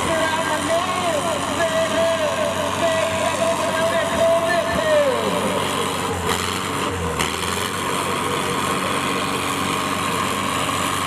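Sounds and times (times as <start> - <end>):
tractor diesel engines under load: 0.0 - 11.0.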